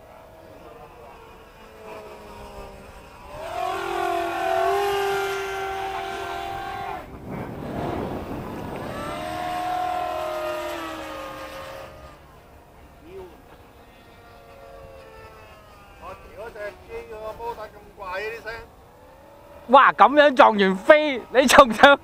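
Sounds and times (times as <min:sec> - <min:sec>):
model plane motor whining: 0:00.0 - 0:22.0.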